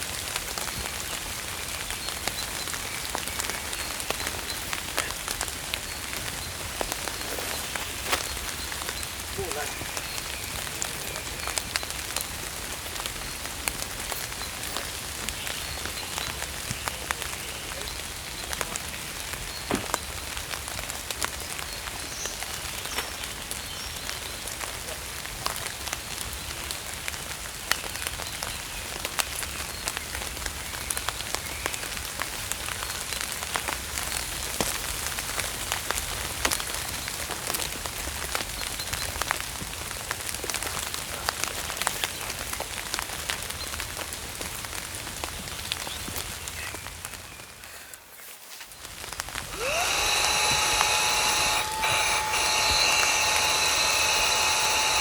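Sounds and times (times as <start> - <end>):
steady rain falling: 0.0 - 49.5.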